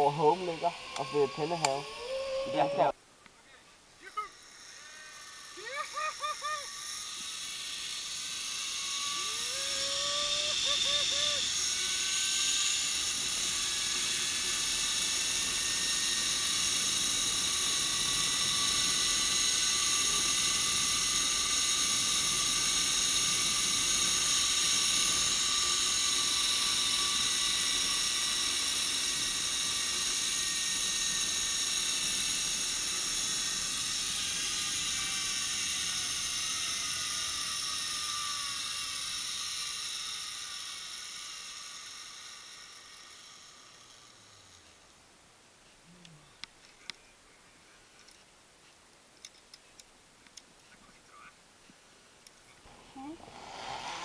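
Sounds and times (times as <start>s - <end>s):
zipline pulleys whining on cable: 0.0s - 3.0s, 4.0s - 46.0s, 52.7s - 54.0s.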